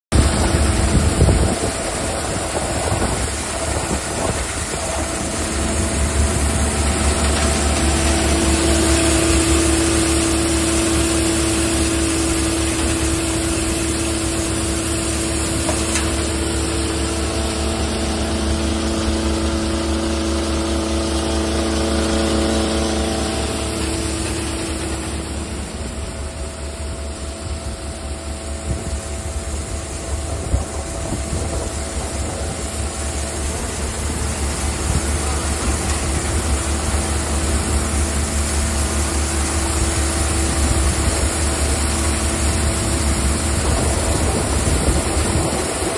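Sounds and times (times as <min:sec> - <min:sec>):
thresher mechanical drone: 0:00.1 - 0:45.9.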